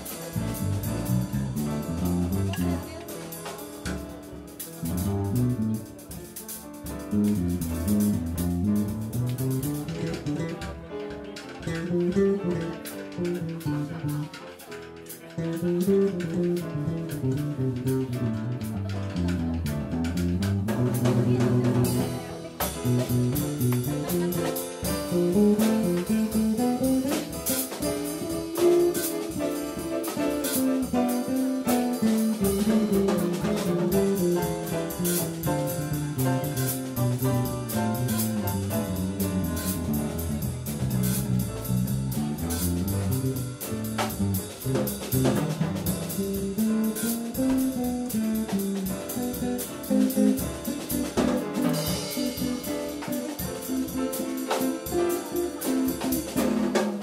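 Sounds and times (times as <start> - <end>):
drums and cymbals: 0.0 - 57.0
latin jazz band playing: 0.0 - 57.0.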